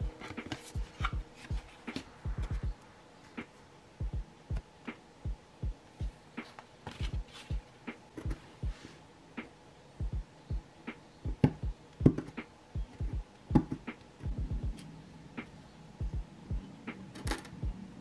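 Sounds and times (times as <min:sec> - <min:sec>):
soft music with thumping kick drum: 0:00.0 - 0:18.0.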